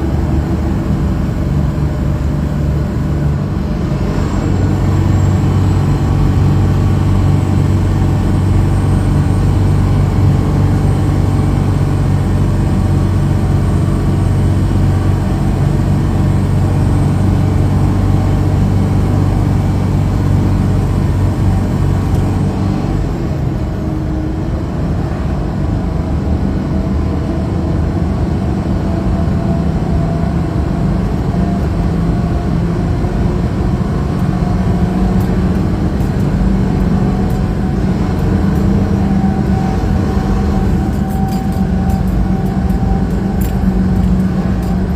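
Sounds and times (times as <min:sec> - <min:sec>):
road noise: 0:00.0 - 0:44.9
truck engine hum: 0:00.0 - 0:44.9.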